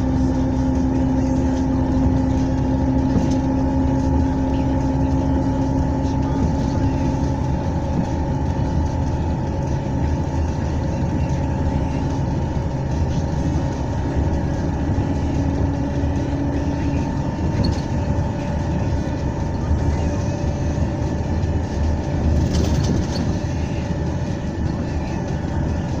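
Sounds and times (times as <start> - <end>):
large engine rumbling: 0.0 - 26.0
thin steady whine: 0.0 - 26.0.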